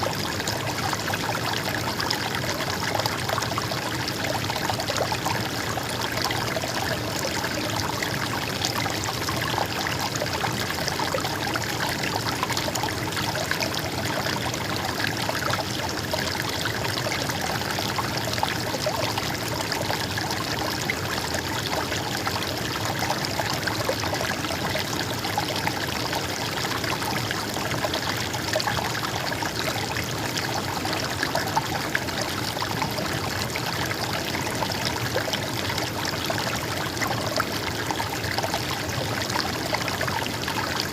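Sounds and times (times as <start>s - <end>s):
stream water trickling and splashing: 0.0s - 40.9s.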